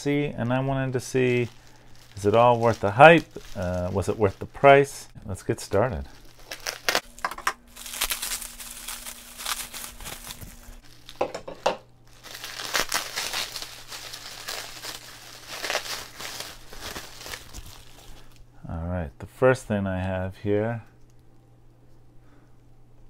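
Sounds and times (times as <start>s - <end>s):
bubble wrap crinkling: 0.0s - 18.5s.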